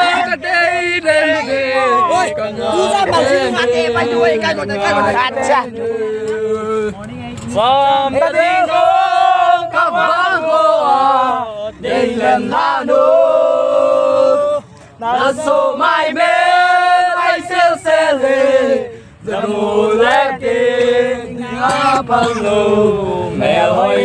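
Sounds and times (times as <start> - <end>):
group singing in unison: 0.0 - 24.0.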